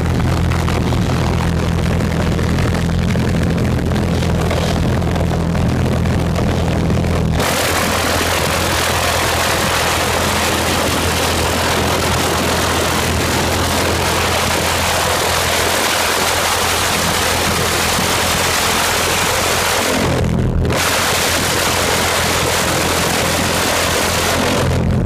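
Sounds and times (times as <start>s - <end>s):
pulse jet engine roaring: 0.0s - 25.0s.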